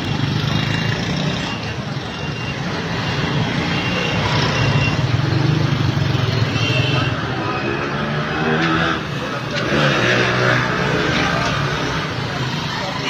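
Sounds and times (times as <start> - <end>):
street traffic engines: 0.0 - 13.0.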